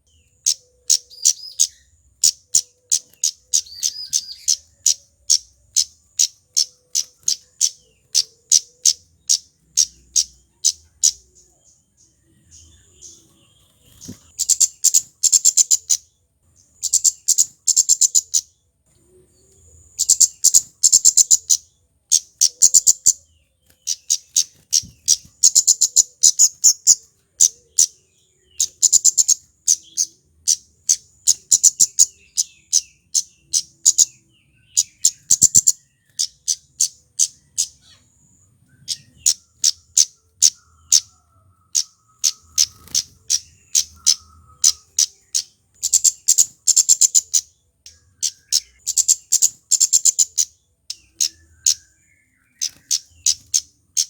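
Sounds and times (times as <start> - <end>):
bird high sharp ticking calls: 0.0 - 54.0.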